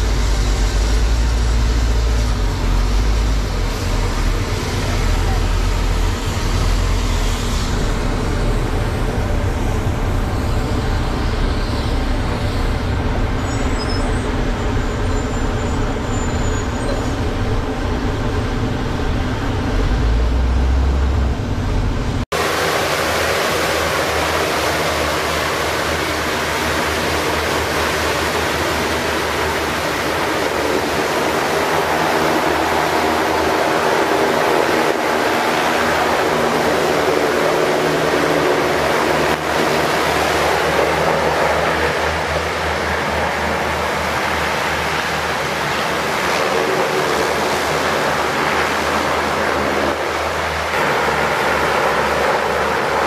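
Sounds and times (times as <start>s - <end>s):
hovercraft turbines roaring: 0.0s - 53.0s
truck diesel engine rumbling: 0.0s - 53.0s.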